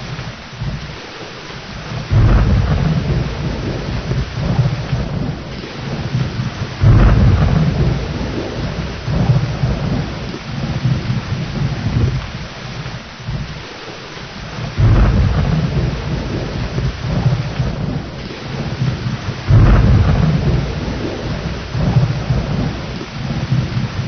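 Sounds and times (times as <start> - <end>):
heavy rain: 0.0 - 24.0
thunder: 1.8 - 12.5, 14.6 - 24.0.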